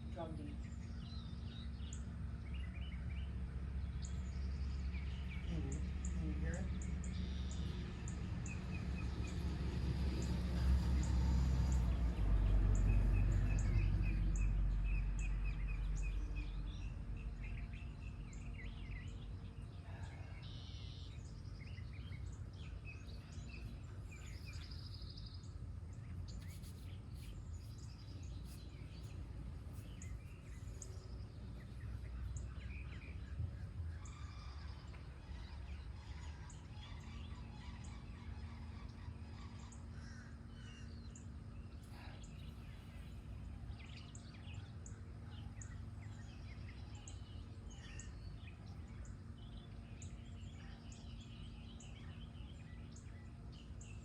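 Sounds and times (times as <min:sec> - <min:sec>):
birds singing and chirping: 0:00.0 - 0:54.0.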